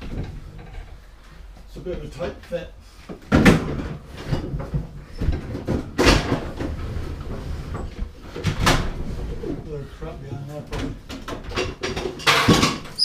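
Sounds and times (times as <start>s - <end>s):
shuffling and rumbling: 0.0s - 13.0s.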